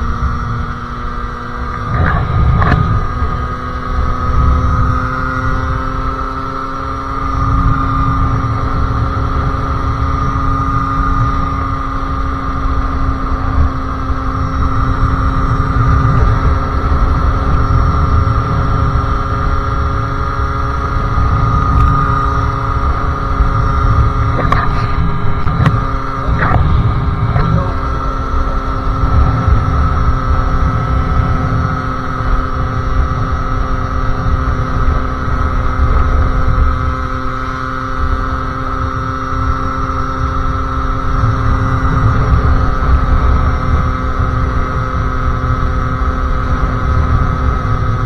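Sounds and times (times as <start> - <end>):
two-stroke engine running: 0.0 - 48.0.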